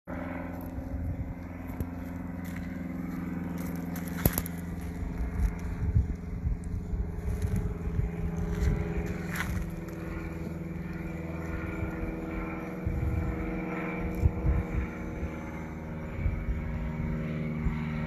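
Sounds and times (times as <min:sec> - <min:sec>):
low hum with rumble: 0:00.1 - 0:18.0.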